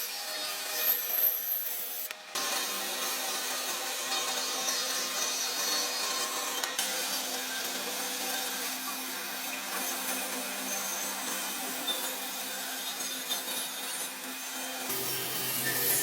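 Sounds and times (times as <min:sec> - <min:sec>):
power tool rasping wood: 0:00.0 - 0:16.0.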